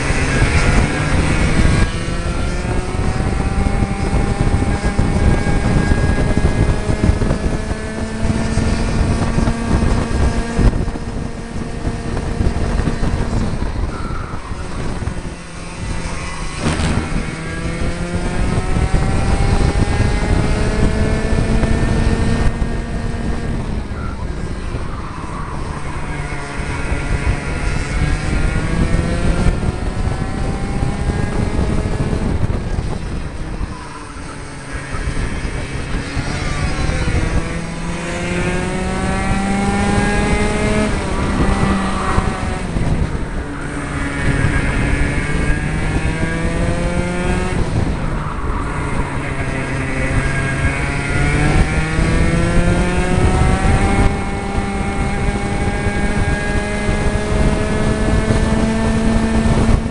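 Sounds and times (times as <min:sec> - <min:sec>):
kart engines buzzing: 0:00.0 - 0:59.9.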